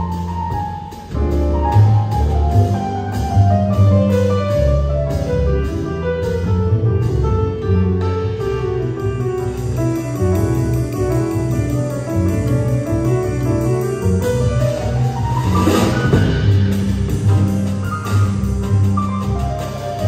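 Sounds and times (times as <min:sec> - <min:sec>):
drums with cymbal beat: 0:00.0 - 0:20.0
grand piano: 0:00.0 - 0:20.0
upright double bass: 0:00.0 - 0:20.0.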